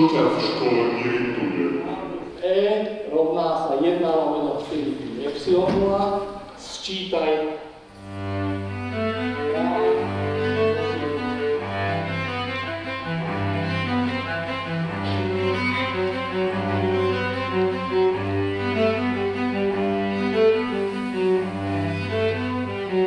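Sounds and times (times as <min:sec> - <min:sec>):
bowed cello music: 0:00.0 - 0:03.0, 0:03.6 - 0:23.0.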